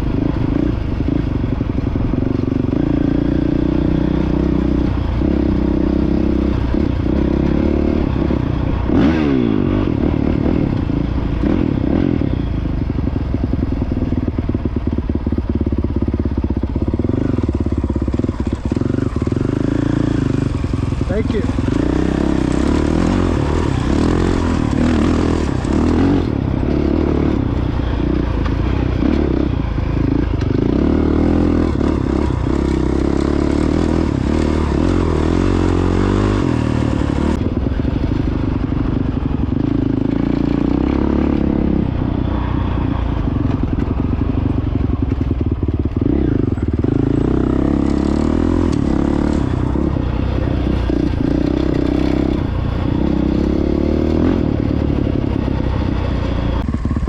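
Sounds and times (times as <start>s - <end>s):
dirt bike engine revving: 0.0s - 12.5s, 14.5s - 37.8s, 39.0s - 57.0s.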